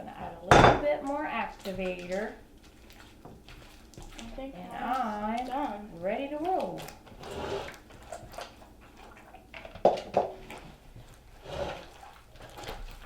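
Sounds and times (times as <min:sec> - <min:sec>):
slime being mixed: 0:01.0 - 0:13.0.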